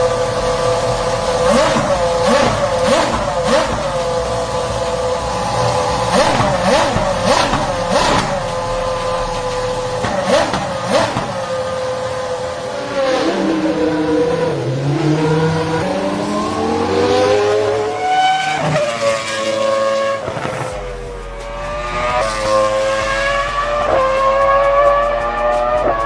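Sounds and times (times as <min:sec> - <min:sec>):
race car engine upshifting: 0:00.0 - 0:26.0.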